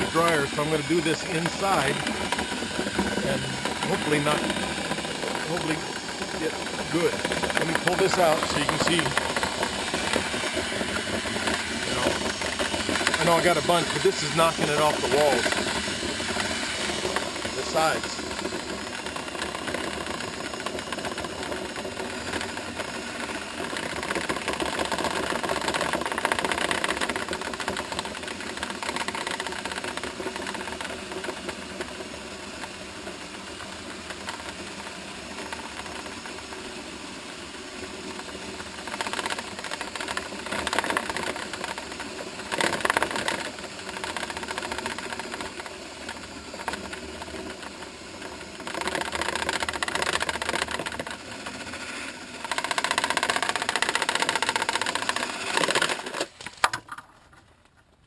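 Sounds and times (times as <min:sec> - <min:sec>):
drill spinning brush in duct: 0:00.0 - 0:57.6.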